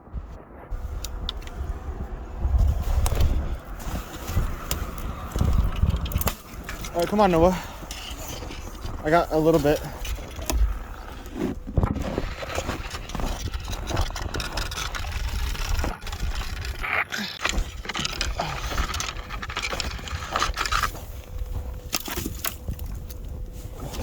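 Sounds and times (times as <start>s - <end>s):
low rumble: 0.0s - 21.9s
branches scraping and cracking: 0.7s - 24.0s.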